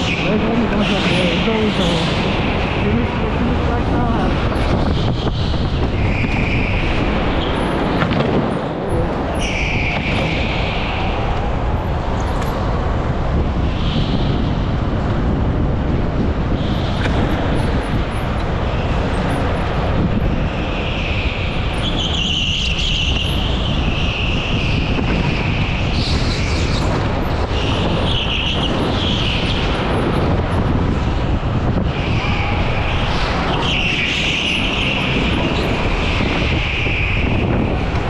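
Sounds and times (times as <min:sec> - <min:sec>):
go-kart wind and drive noise: 0:00.0 - 0:38.0.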